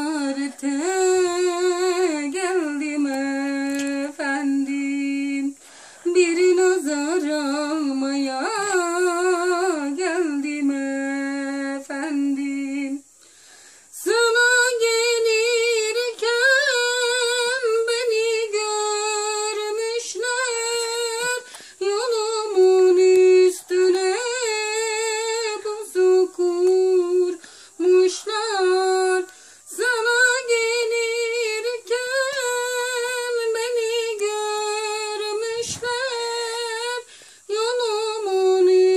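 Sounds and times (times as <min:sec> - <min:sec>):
woman singing unaccompanied: 0:00.0 - 0:38.9.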